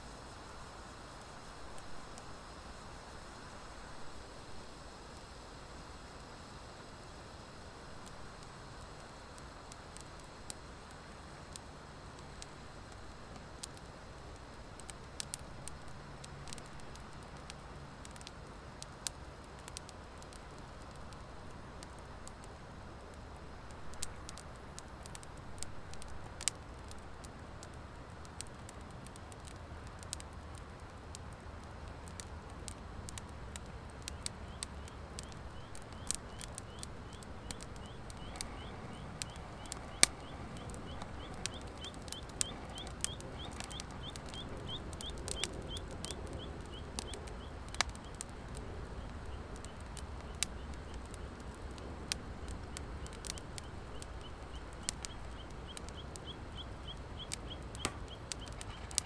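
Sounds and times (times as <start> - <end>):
fire crackling and popping: 0.0 - 59.0
wood fire burning: 0.0 - 59.0.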